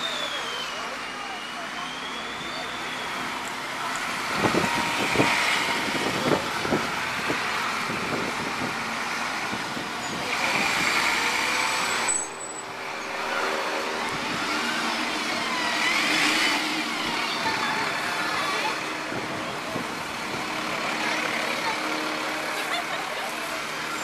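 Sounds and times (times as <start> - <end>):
diesel buses running: 0.0 - 24.0.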